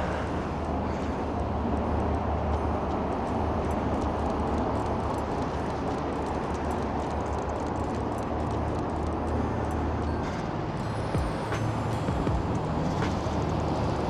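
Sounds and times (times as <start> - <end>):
cars driving on snowy road: 0.0 - 14.0
low traffic rumble: 0.0 - 14.0.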